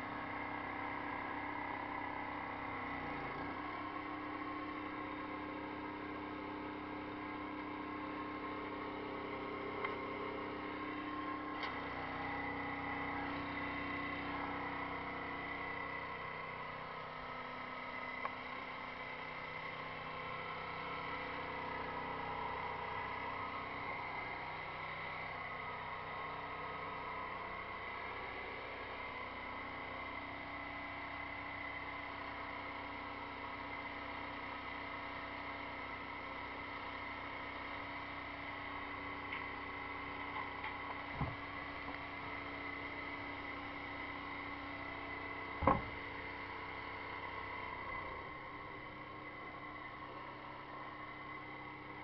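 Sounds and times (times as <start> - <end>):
pressure washer running: 0.0 - 52.0.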